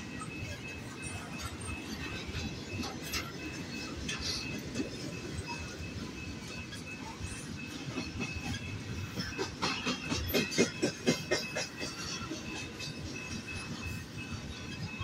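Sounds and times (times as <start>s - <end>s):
freight train wheels clacking: 0.0s - 15.0s.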